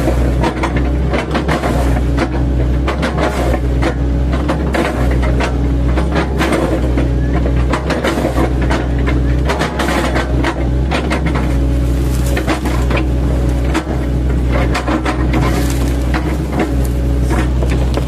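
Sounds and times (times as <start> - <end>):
bucket chopping and splintering trunks: 0.0 - 18.0
excavator diesel engine under load: 0.0 - 18.0.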